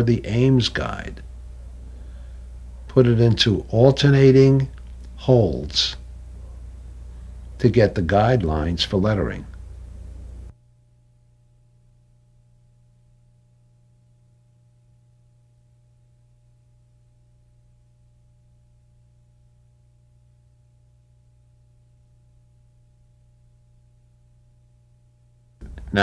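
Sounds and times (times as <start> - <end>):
faint low electrical hum: 0.0 - 26.0.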